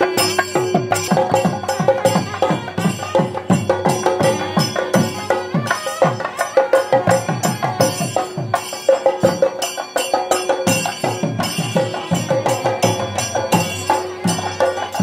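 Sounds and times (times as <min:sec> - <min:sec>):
drums beating fast rhythm: 0:00.0 - 0:15.0
small cymbals clashing: 0:00.0 - 0:15.0.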